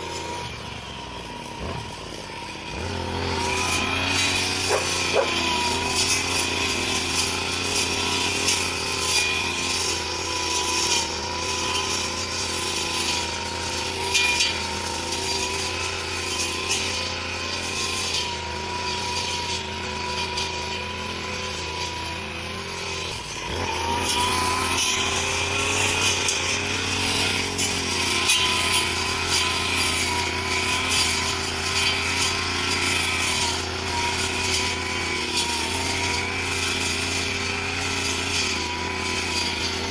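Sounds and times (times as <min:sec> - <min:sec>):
grass cutter engine whining: 0:00.0 - 0:39.9.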